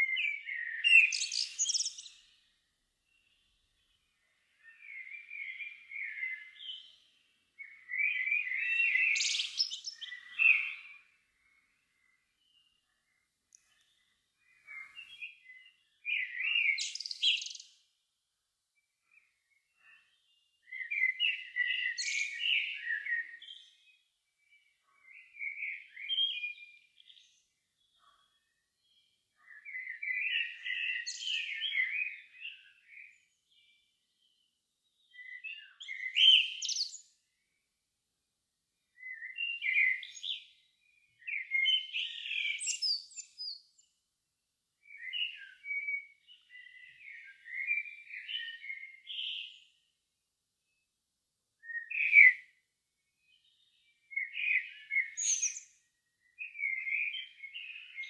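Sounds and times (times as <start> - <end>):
songbird singing: 0.0 - 18.0, 18.7 - 37.7, 38.7 - 44.1, 44.7 - 58.0.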